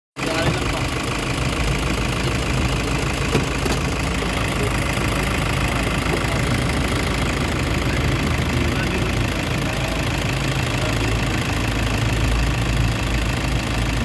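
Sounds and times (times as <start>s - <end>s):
van engine idling: 0.2s - 14.0s.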